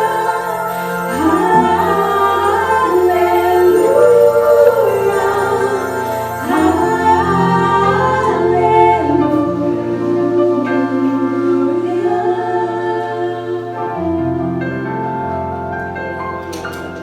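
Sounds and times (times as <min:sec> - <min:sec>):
choir singing a hymn: 0:00.0 - 0:17.0
instrumental accompaniment: 0:00.0 - 0:17.0.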